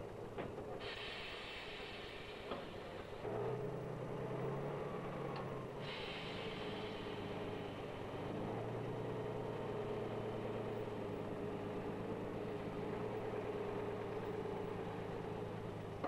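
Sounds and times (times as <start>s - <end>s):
truck engine running: 1.4s - 16.0s.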